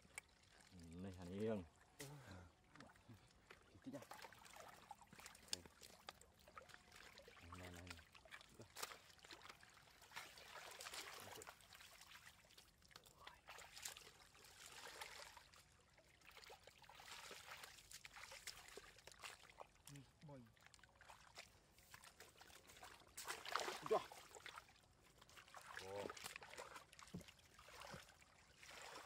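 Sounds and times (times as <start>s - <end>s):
muddy water sloshing and trickling: 0.0s - 29.0s
small splashes and clicks: 0.0s - 29.0s.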